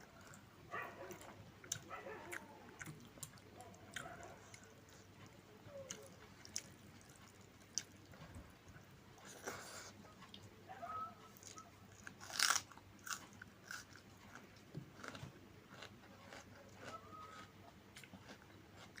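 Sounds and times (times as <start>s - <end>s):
person chewing: 1.1s - 10.4s, 11.4s - 19.0s.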